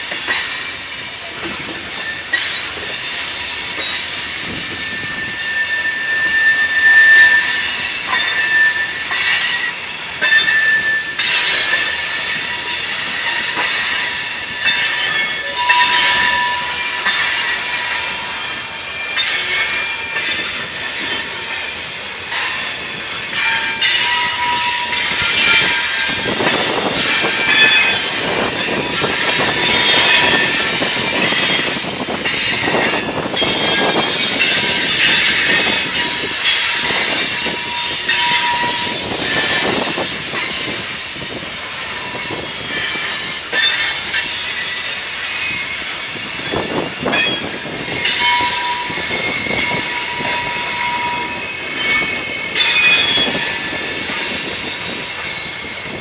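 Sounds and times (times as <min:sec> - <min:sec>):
train wheels squealing: 0:00.0 - 0:56.0.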